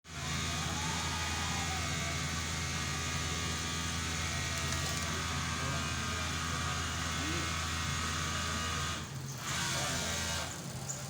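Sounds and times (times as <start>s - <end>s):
low machine hum: 0.1s - 11.0s.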